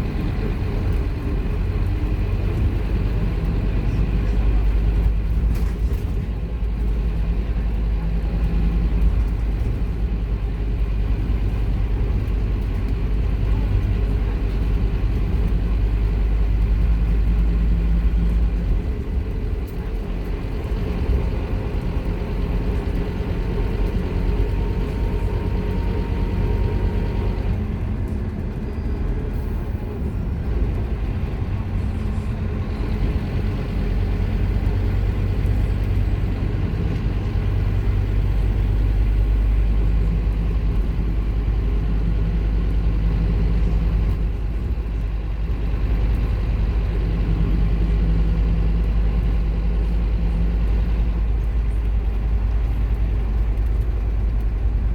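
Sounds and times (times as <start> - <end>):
bus diesel engine drone: 0.0 - 54.9.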